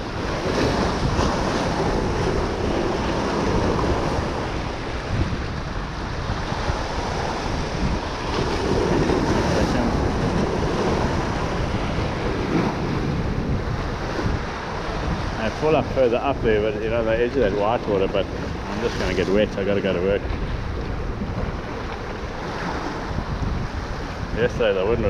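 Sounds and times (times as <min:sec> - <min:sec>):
breaking surf: 0:00.0 - 0:25.0
wind buffeting microphone: 0:00.0 - 0:25.0.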